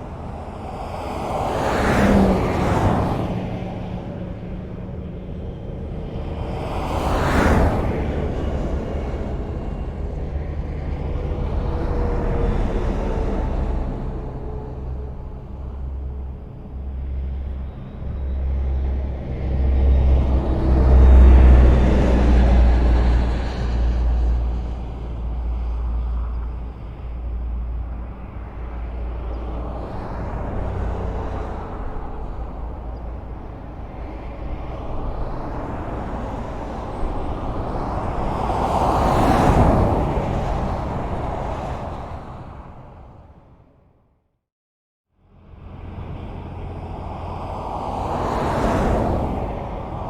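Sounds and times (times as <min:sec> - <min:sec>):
cars passing on highway: 0:00.0 - 0:44.0, 0:45.2 - 0:50.0.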